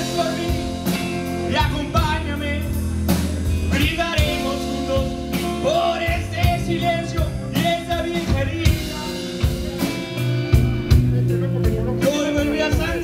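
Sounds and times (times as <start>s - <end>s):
man singing: 0.0s - 3.0s, 3.6s - 10.0s, 10.6s - 13.0s
rock band playing: 0.0s - 13.0s.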